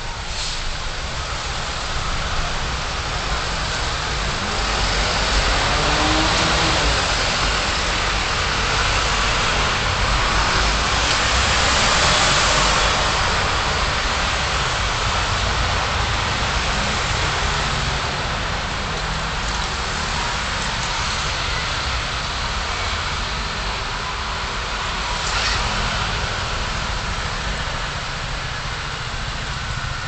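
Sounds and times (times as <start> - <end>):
tyre and road noise: 0.0 - 30.0.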